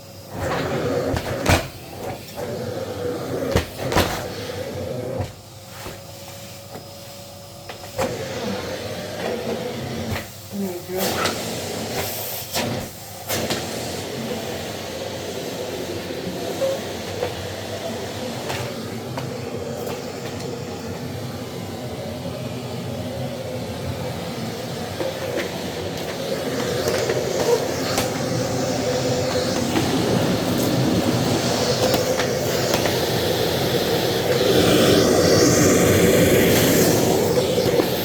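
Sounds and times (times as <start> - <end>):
vacuum cleaner on carpet: 0.0 - 38.0.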